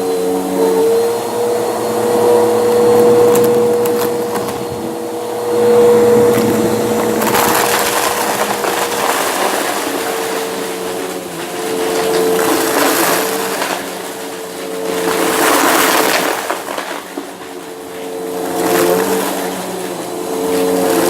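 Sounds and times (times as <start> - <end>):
vacuum cleaner motor whine: 0.0 - 21.0
brushroll crackling over debris: 0.1 - 21.0.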